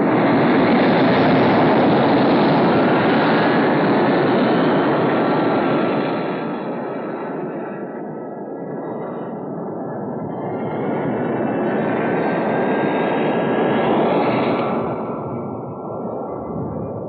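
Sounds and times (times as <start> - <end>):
aircraft engine rushing: 0.0 - 17.0.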